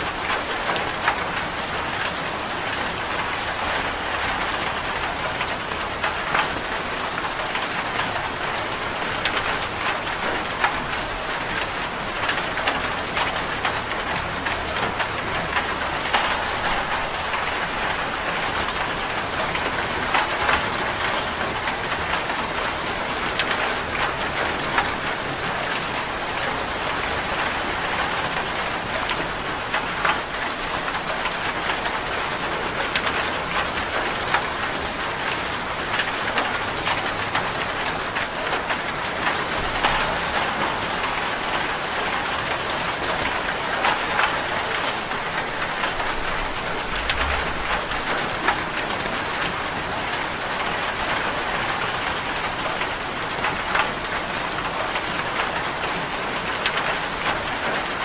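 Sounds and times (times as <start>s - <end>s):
raindrops ticking on surface: 0.0s - 58.0s
steady rain falling: 0.0s - 58.0s.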